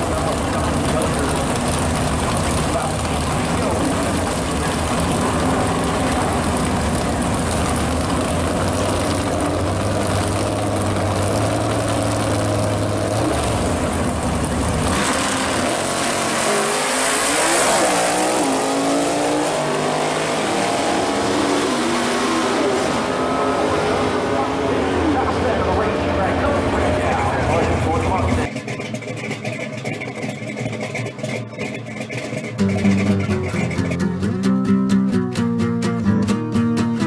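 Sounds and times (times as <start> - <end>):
engines revving at full throttle: 0.0 - 34.5
drag car engines running: 0.0 - 35.5.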